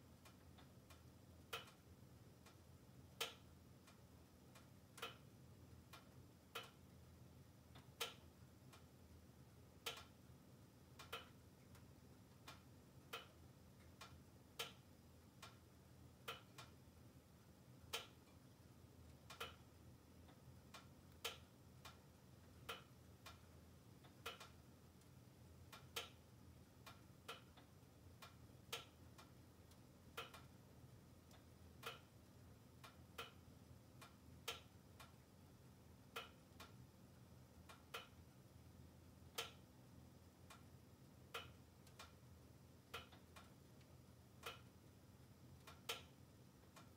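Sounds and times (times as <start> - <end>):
faint low steady hum: 0.0 - 46.9.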